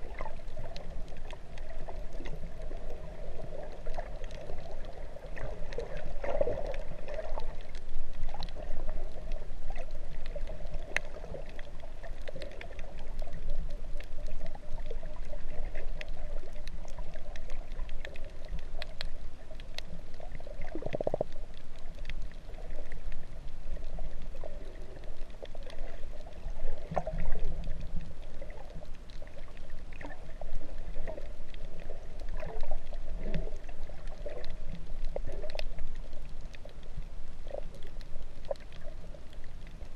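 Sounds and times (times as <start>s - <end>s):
faint clicks: 0.0s - 39.9s
muffled underwater sloshing: 0.0s - 39.9s.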